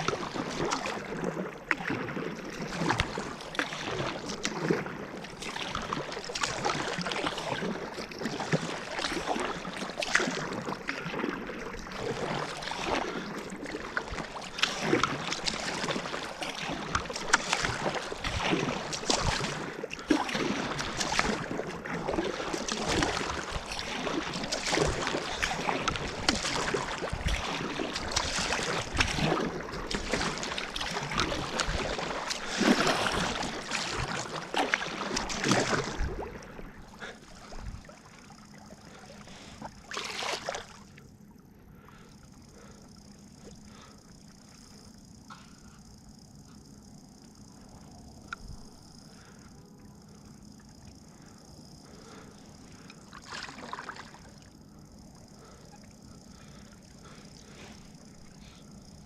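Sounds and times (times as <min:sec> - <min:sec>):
water splashing against kayak: 0:00.0 - 0:59.0.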